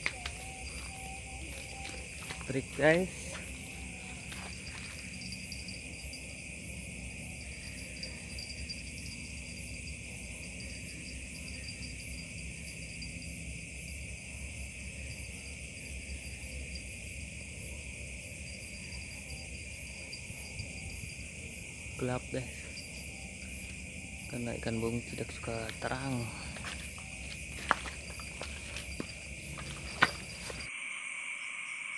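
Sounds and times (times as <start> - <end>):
fast pulsing insect trill: 0.0 - 31.9
night insects chirring: 0.0 - 31.9.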